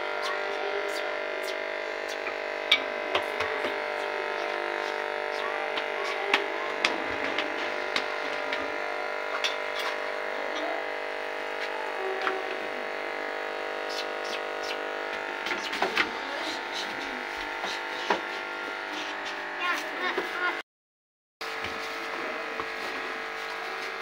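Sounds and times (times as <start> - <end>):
steady machine hum: 0.0 - 20.6, 21.4 - 24.0.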